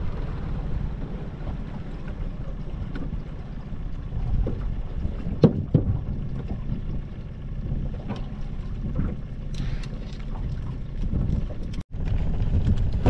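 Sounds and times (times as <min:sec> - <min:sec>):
low wind rumble: 0:00.0 - 0:13.0
water around a boat: 0:00.0 - 0:13.0.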